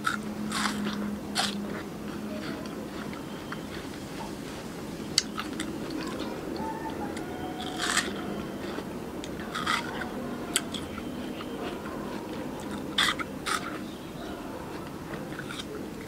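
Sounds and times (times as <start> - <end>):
person chewing: 0.0 - 16.0
watermelon crunching: 0.0 - 16.0.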